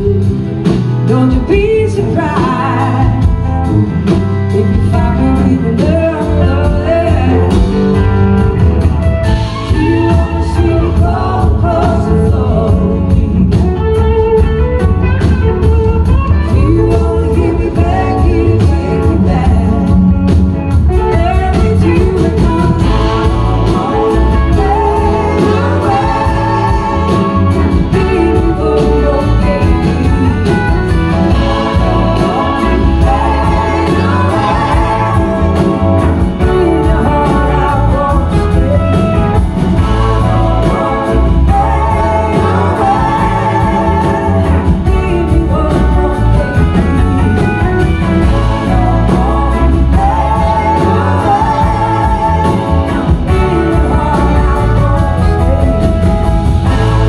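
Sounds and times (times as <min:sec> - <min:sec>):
live blues-rock band: 0:00.0 - 0:57.0
woman singing: 0:00.0 - 0:57.0.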